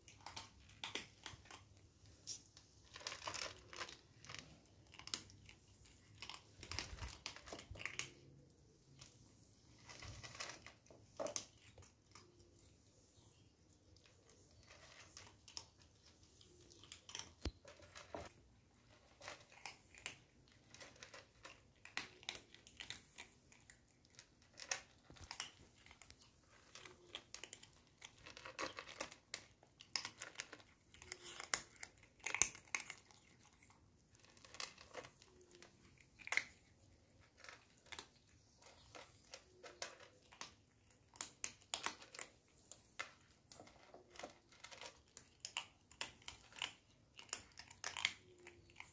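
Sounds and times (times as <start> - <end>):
kittens crunching dry kibble: 0.0 - 48.9.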